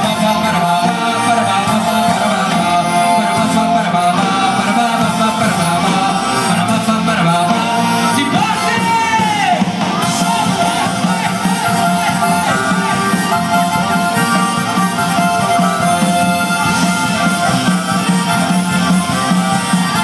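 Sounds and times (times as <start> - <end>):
live folk band with singing: 0.0 - 20.0.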